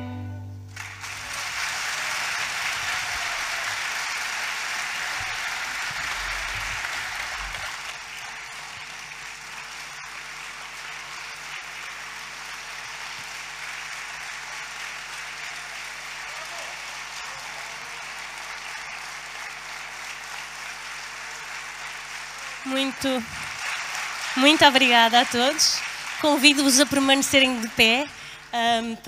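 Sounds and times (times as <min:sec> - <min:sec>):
audience applauding: 0:00.7 - 0:29.0.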